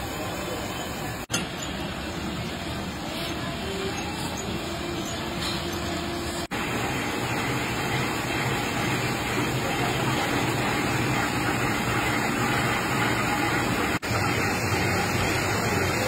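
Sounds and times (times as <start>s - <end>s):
printing machine running: 0.0s - 16.0s.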